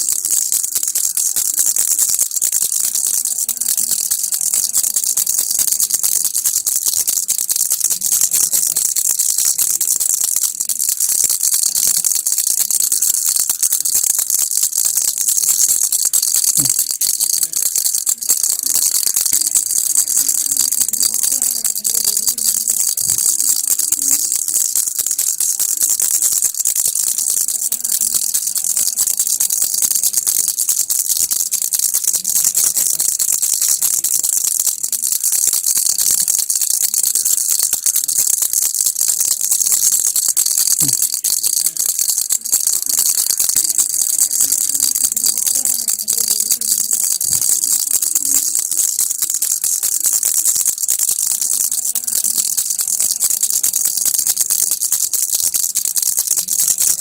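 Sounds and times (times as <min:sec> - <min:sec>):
baby rattle shaken: 0:00.0 - 0:57.0.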